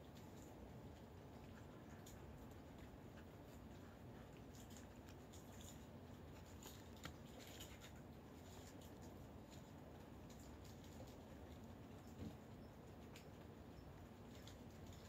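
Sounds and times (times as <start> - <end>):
cats crunching dry kibble: 0.0 - 15.0.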